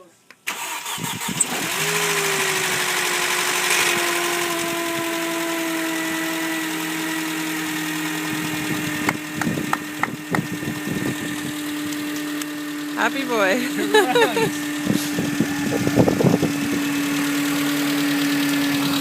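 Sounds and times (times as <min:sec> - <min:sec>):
car engine idling: 0:01.6 - 0:19.0.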